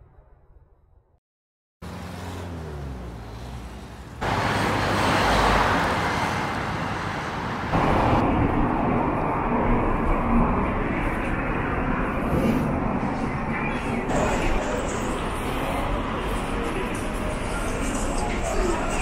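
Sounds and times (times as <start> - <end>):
cars passing on street: 1.8 - 19.0.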